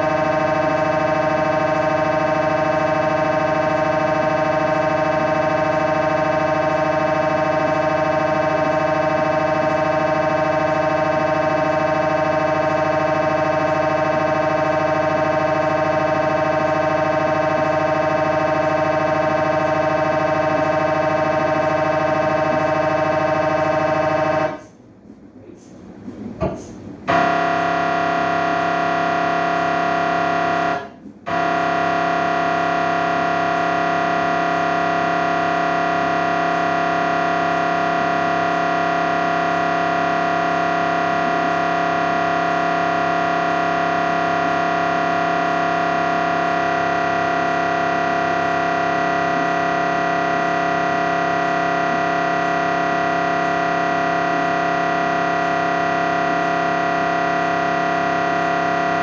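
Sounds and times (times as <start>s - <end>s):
mri scanner buzzing drone: 0.0s - 24.8s, 27.0s - 59.0s.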